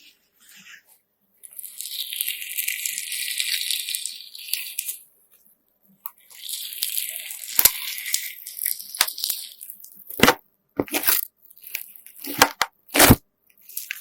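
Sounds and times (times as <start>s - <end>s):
gritty slime crunching: 1.5s - 5.0s, 6.1s - 14.0s.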